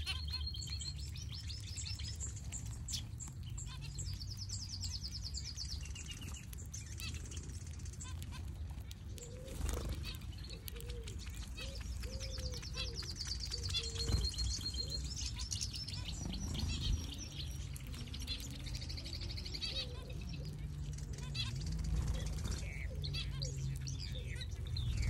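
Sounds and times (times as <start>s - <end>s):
finches chirping and twittering: 0.0s - 25.0s.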